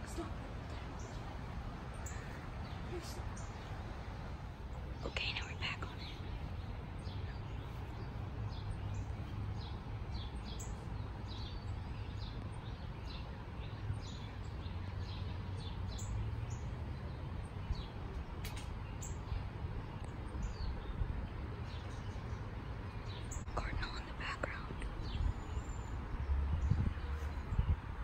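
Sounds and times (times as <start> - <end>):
birds chirping: 0.0 - 28.0
steady low rumble: 0.0 - 28.0.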